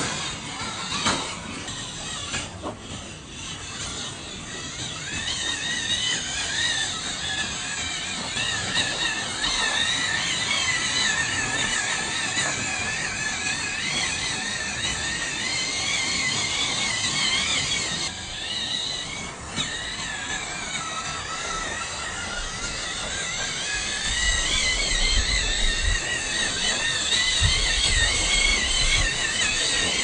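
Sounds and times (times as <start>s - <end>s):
small electric motor whining: 0.0s - 30.0s.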